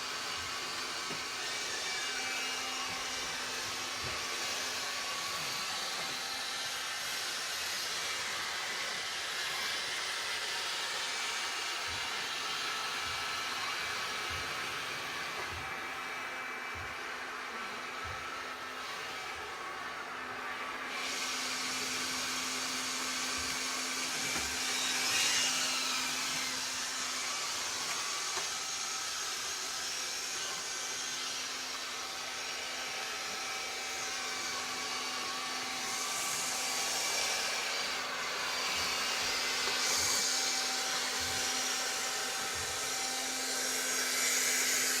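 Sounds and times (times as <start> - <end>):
robot vacuum cleaner running: 0.0 - 45.0.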